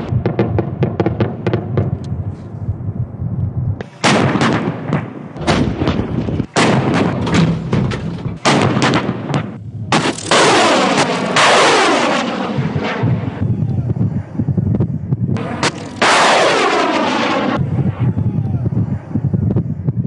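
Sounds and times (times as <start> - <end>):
gunshots and blasts: 0.0 - 2.1, 3.8 - 20.0.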